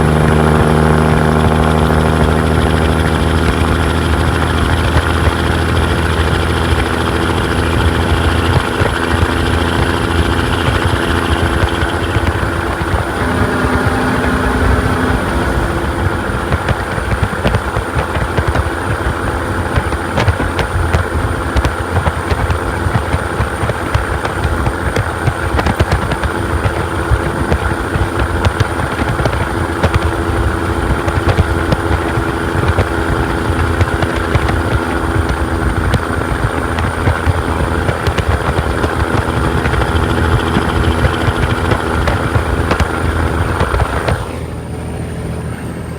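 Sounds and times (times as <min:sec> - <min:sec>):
diesel truck engine drone: 0:00.0 - 0:45.9.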